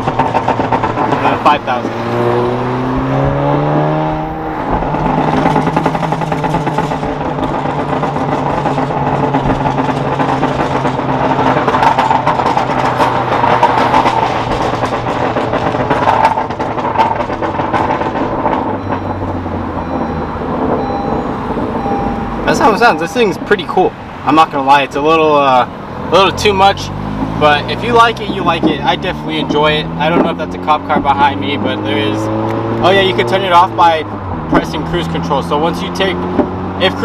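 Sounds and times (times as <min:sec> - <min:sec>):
exhaust crackling pops: 0:00.0 - 0:02.0, 0:04.6 - 0:25.8, 0:26.4 - 0:37.0
car engine revving: 0:00.0 - 0:37.0.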